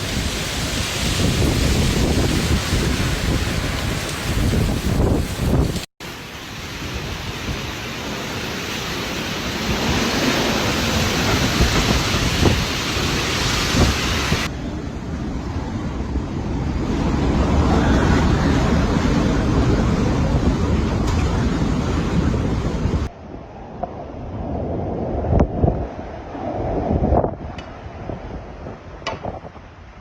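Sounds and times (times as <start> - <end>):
wind buffeting microphone: 0.0 - 5.9, 9.2 - 30.0
strong wind gusting: 0.0 - 30.0.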